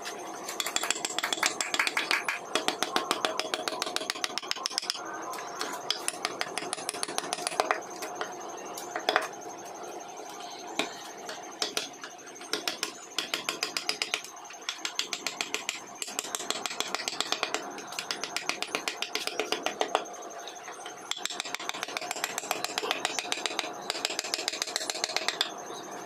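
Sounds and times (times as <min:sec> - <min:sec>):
carving tools tapping wood: 0:00.6 - 0:05.0, 0:05.6 - 0:08.3, 0:09.0 - 0:09.3, 0:10.8 - 0:20.0, 0:20.9 - 0:25.5.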